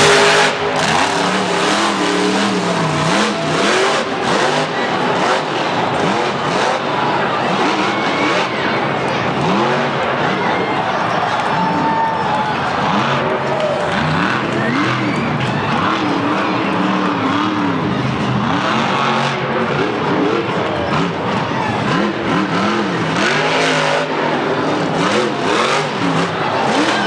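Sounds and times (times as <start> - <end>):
truck engines revving hard: 0.0 - 27.0.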